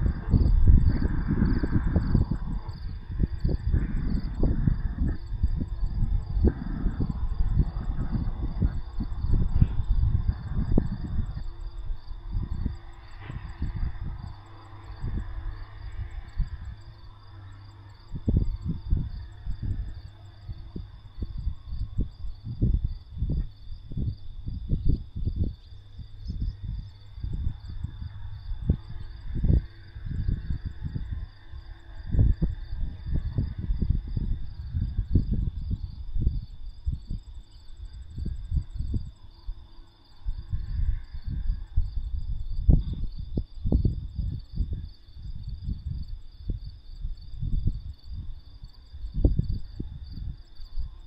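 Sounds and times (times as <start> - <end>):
crickets chirping: 0.0 - 51.0
wind buffeting microphone: 0.0 - 51.0.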